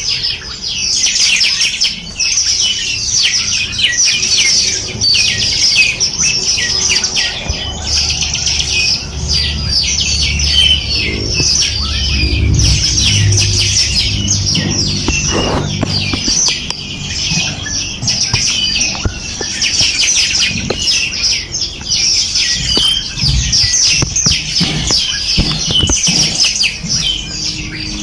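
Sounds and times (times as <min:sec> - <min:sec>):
songbirds chirping and trilling: 0:00.0 - 0:28.0
low rumble: 0:04.8 - 0:28.0.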